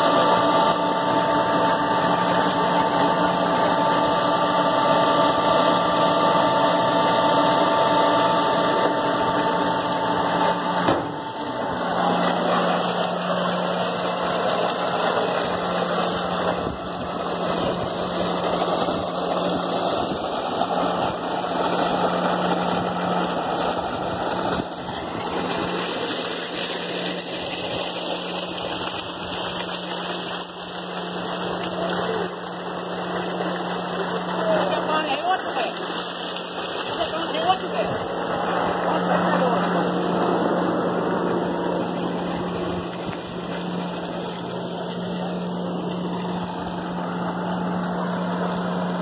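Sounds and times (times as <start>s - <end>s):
machine hum: 0.0s - 49.0s
water pouring from a pipe: 0.0s - 49.0s.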